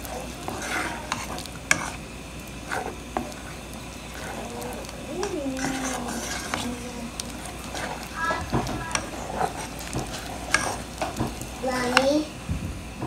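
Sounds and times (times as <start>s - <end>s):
broth bubbling: 0.0s - 11.8s
spatula scraping a pot: 0.0s - 12.3s.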